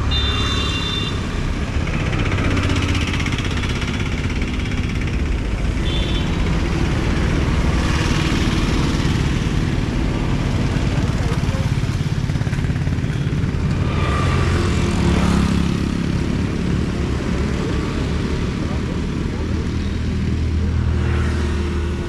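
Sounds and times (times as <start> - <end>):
city traffic passing: 0.0 - 22.0.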